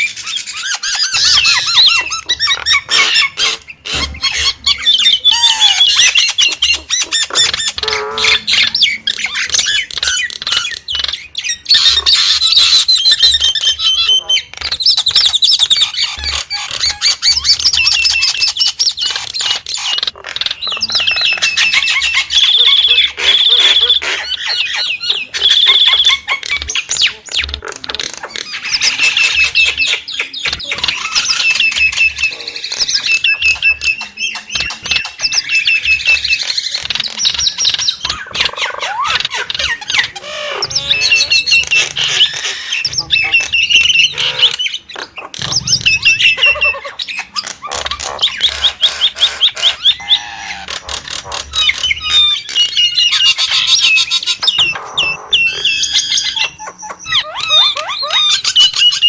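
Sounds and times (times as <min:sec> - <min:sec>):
myna chattering and whistling: 0:00.0 - 0:59.0.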